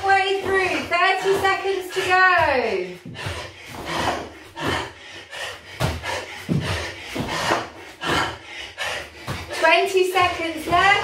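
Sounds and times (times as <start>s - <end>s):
thuds on foam mats: 0.0s - 5.0s, 5.7s - 8.4s, 9.1s - 11.0s
man panting hard: 0.5s - 10.5s.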